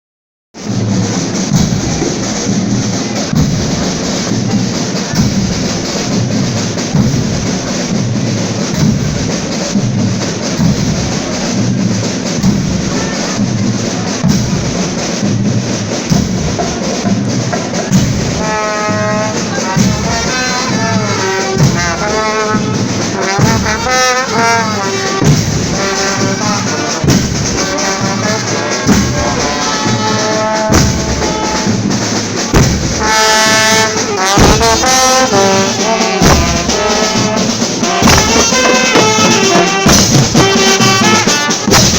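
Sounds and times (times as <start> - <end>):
brass melody: 0.6 - 41.9
marching drums beating: 0.6 - 41.9.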